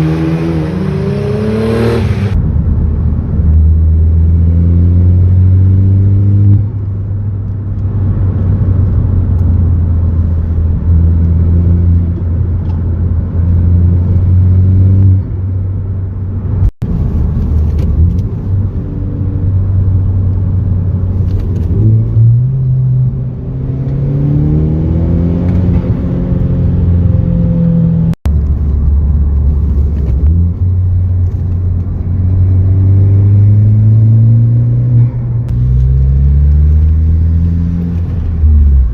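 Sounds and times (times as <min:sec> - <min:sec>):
car engine driving: 0:00.0 - 0:38.9.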